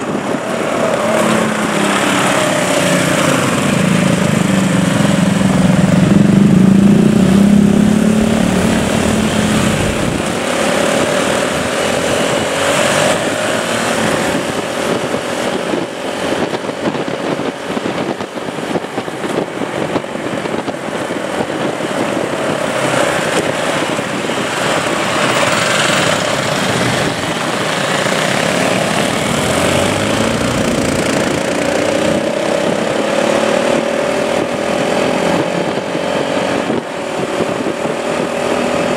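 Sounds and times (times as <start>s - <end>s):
motorcycle engines: 0.0s - 38.9s
wind noise on microphone: 0.0s - 38.9s.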